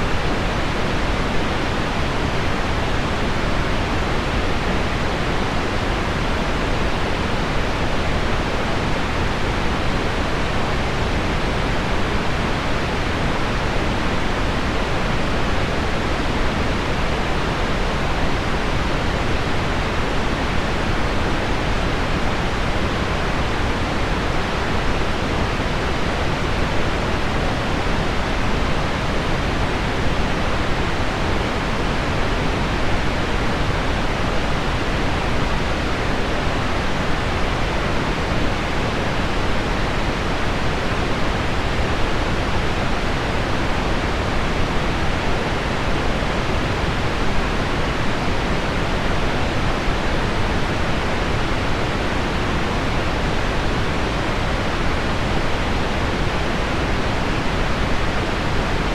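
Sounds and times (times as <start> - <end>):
pink noise: 0.0 - 58.9.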